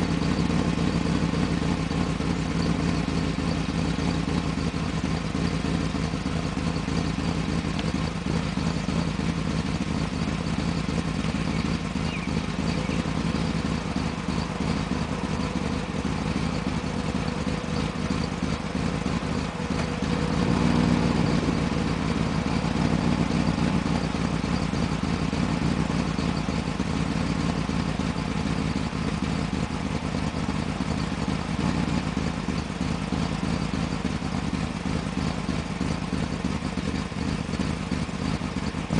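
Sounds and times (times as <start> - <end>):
car engine idling rough: 0.0 - 38.9.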